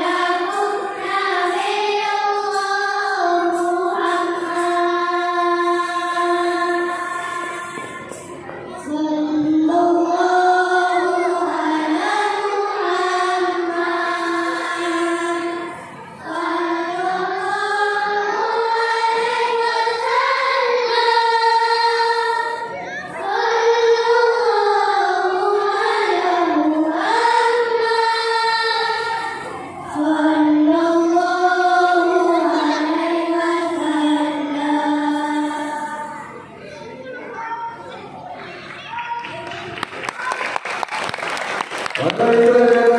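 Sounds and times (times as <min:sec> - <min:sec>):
children's choir singing: 0:00.0 - 0:36.9, 0:41.5 - 0:42.9.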